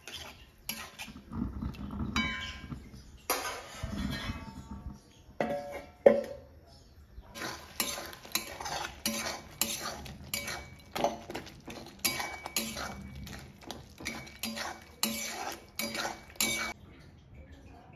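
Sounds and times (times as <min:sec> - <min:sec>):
metal spatula scraping a pan: 0:00.0 - 0:06.0, 0:07.3 - 0:16.8.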